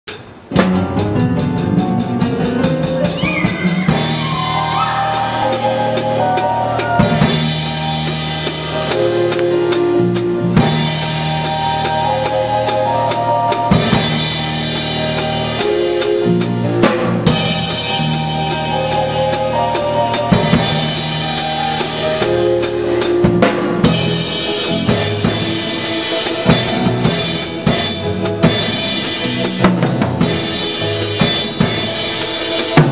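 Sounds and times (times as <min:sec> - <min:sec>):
drum kit played hard: 0:00.0 - 0:32.9
keyboard and orchestra notes: 0:00.1 - 0:32.9.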